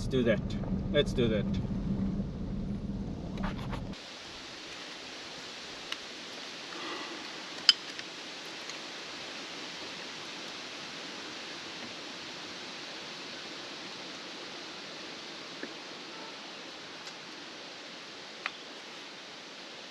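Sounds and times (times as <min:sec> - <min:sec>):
steady hiss: 0:03.9 - 0:19.9.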